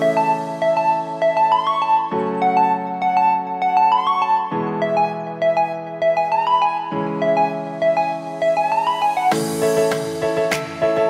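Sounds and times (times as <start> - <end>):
keyboard melody over chords: 0.0 - 11.0.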